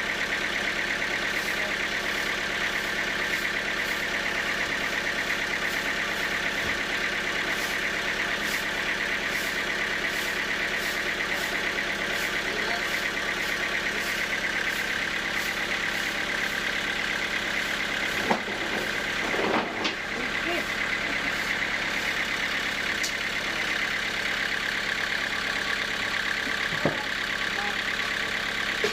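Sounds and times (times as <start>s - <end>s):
sawmill machinery running: 0.0s - 28.9s.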